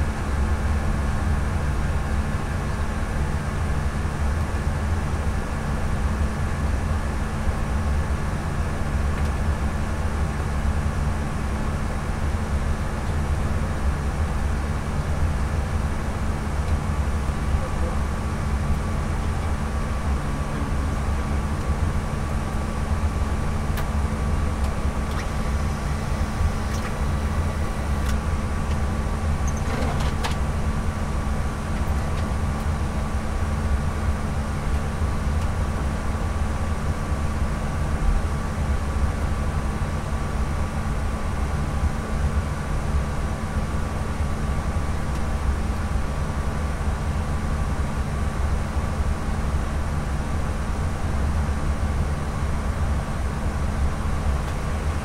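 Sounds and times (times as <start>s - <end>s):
cockpit equipment hum and whine: 0.0s - 55.0s
deep engine rumble: 0.0s - 55.0s.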